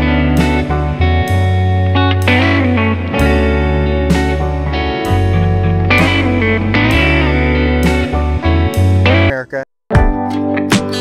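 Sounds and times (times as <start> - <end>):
steady bass line: 0.0 - 9.3
guitar chords: 0.0 - 11.0.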